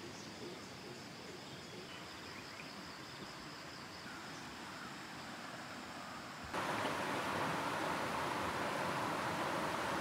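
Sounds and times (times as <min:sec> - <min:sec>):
insects droning: 0:00.0 - 0:10.0
soft outdoor hiss: 0:00.0 - 0:10.0.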